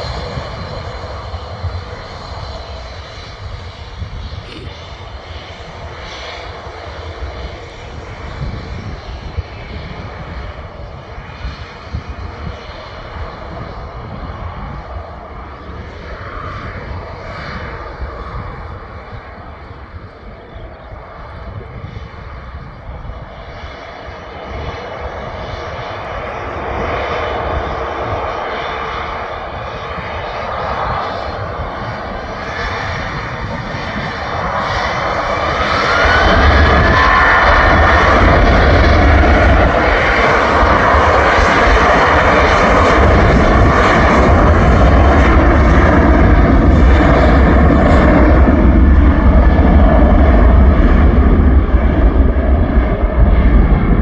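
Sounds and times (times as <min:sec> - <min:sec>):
jet engines at takeoff power: 0:00.0 - 0:54.0.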